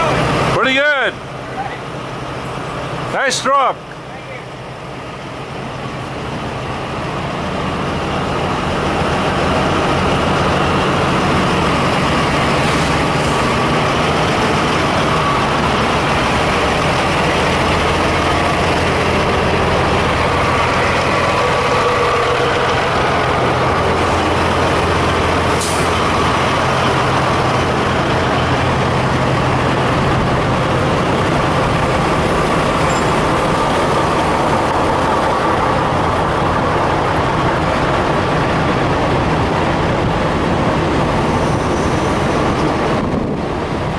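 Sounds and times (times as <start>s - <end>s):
diesel truck engines idling: 0.0s - 43.9s.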